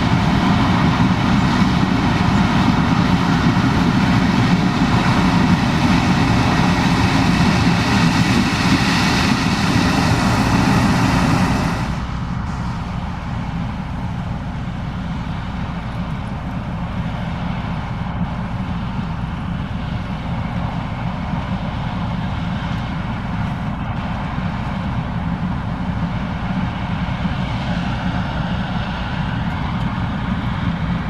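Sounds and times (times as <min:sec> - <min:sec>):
combine engine and machinery drone: 0:00.0 - 0:31.0.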